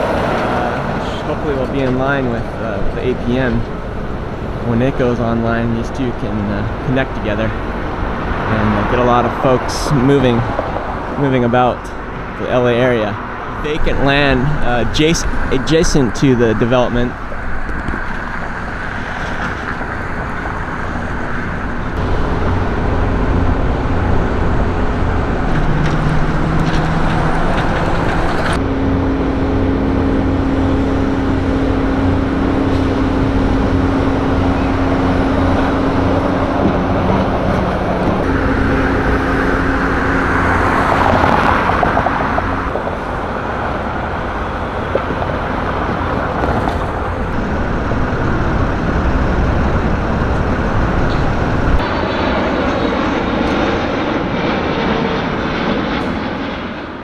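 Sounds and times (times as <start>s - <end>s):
cars and trucks driving past: 0.0s - 53.2s
loud vehicle passing: 0.0s - 57.0s.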